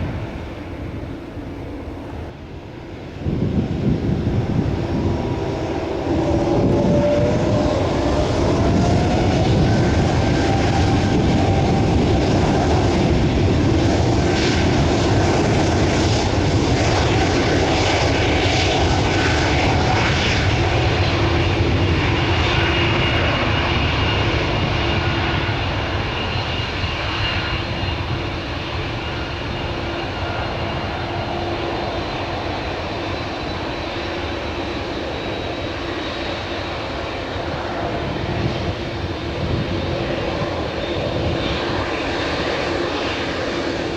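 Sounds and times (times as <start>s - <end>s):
jet engine noise with whining: 0.0s - 43.9s.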